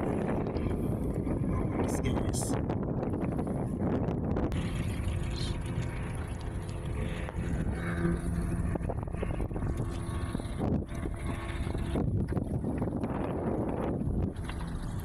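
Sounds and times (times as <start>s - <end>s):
outboard motor running: 0.0s - 15.0s
wind on microphone: 0.0s - 15.0s.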